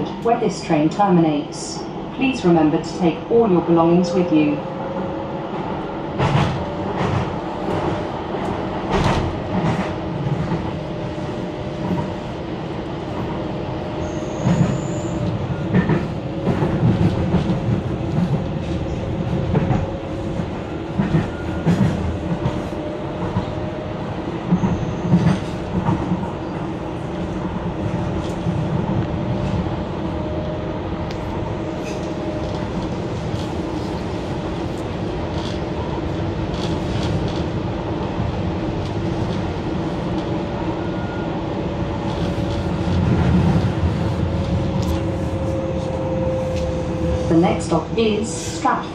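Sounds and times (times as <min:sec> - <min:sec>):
train hum from inside: 0:00.0 - 0:48.9.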